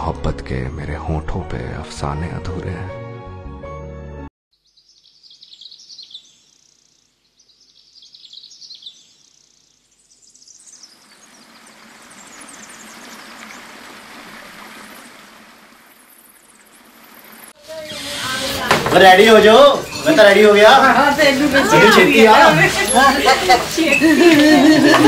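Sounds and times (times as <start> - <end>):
birds chirping: 4.6 - 25.0.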